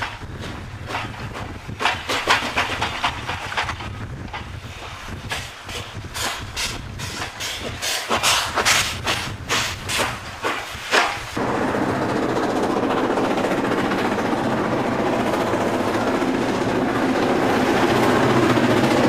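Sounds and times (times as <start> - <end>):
steam locomotive chuffing: 0.0 - 19.0
train rushing noise: 0.0 - 19.0.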